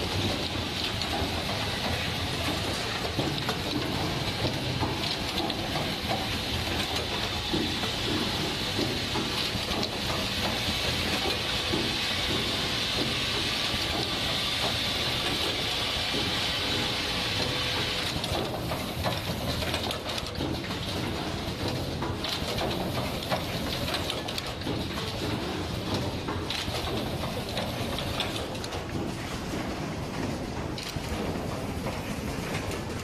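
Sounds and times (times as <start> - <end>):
pneumatic machine clicks and clacks: 0.0 - 33.0.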